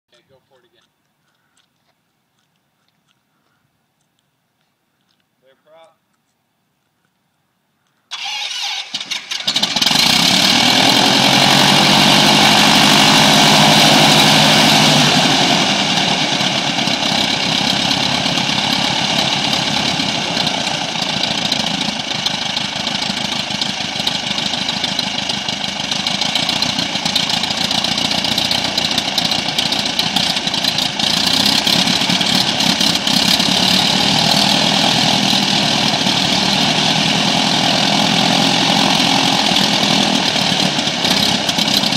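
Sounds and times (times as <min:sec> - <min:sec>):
aircraft engine running: 0:08.1 - 0:41.9.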